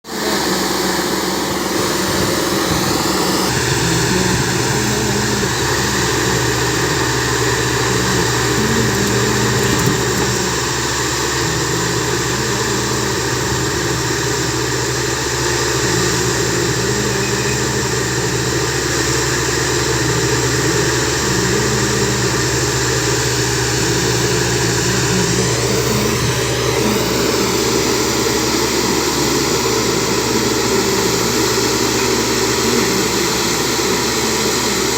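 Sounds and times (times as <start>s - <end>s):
tamping machine engine humming: 0.0s - 34.9s.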